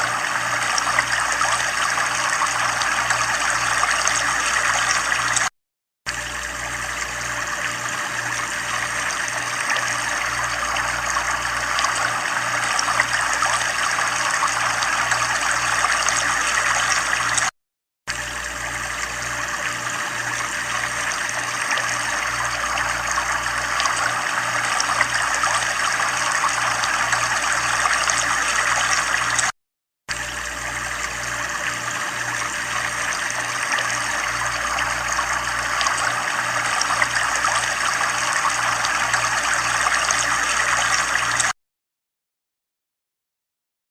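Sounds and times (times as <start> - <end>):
water trickling: 0.0 - 5.5, 6.1 - 17.5, 18.1 - 29.5, 30.2 - 41.5.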